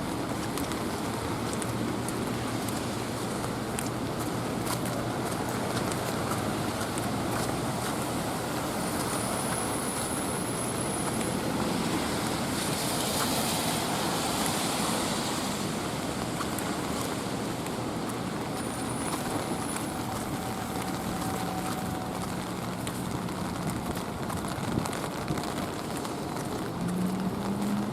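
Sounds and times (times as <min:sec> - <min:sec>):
light rain hiss: 0:00.0 - 0:27.9
traffic: 0:00.0 - 0:27.9
tyres on wet road: 0:00.0 - 0:27.9.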